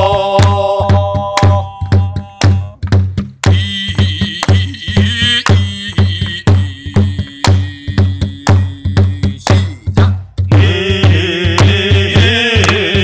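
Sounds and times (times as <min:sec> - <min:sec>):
barrel drum beaten: 0:00.0 - 0:13.0.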